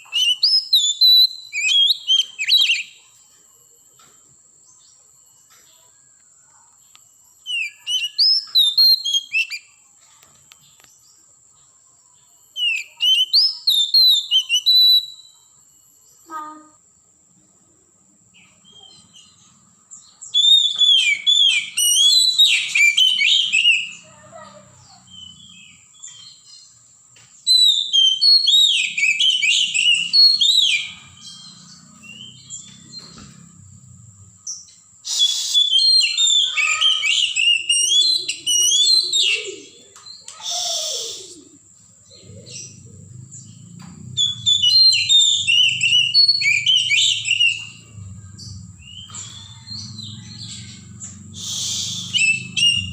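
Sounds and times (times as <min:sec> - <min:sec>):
bird singing: 0:00.0 - 0:52.9.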